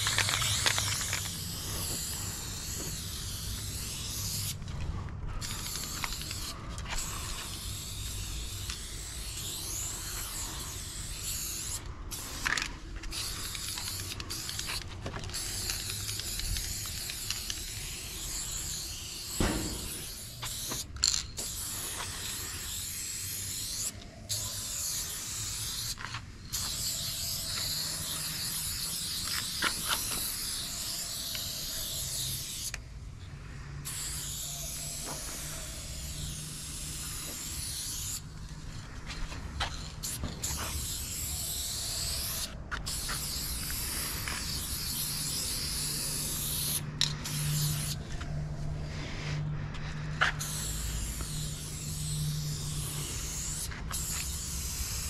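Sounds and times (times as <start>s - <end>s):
spray paint can hissing: 0.0s - 32.8s, 33.5s - 55.0s.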